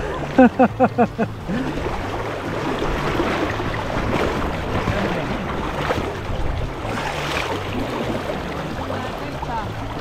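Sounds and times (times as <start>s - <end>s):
river water sloshing and splashing: 0.0s - 10.0s
wind buffeting microphone: 1.6s - 10.0s.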